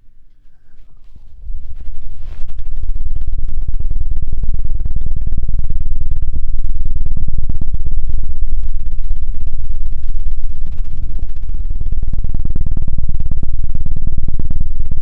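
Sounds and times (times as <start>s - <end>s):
deep fluttering thumps on microphone: 0.0s - 15.0s.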